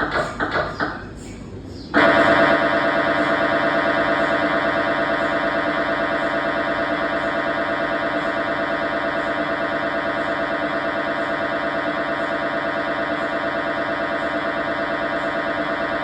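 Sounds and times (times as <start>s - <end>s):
mri scanner pulsing buzz: 0.0s - 16.0s.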